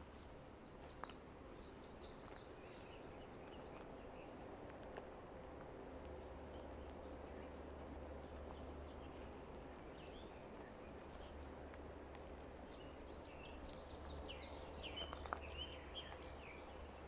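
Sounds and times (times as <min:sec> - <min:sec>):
songbird chirping: 0:00.0 - 0:04.4, 0:06.5 - 0:17.0
forest ambience: 0:00.0 - 0:05.3, 0:06.1 - 0:17.0.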